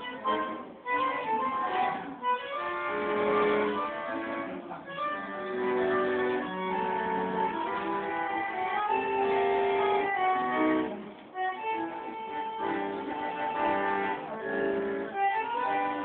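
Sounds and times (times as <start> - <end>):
bandoneon playing chords and melody: 0.0 - 16.0.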